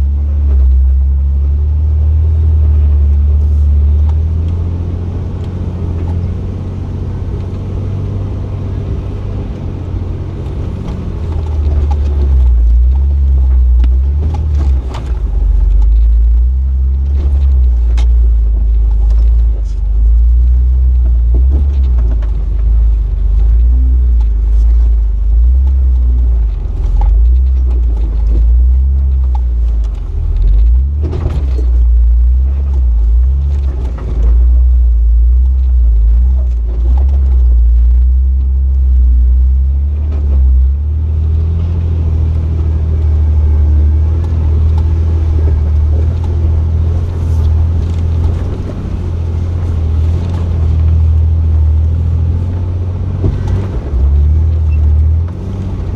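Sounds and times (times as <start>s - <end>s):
engine low rumble: 0.0s - 55.9s
knocks from driving over rocks: 10.2s - 55.9s.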